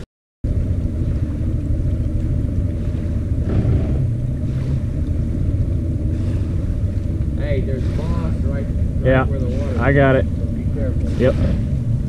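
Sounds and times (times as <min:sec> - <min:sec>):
wind buffeting microphone: 0:00.4 - 0:12.0.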